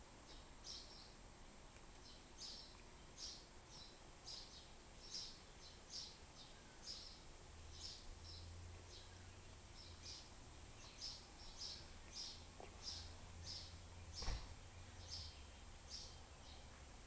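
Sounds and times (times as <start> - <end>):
faint low hum: 0.0 - 17.0
small bird chirping: 0.2 - 1.2, 1.9 - 16.9.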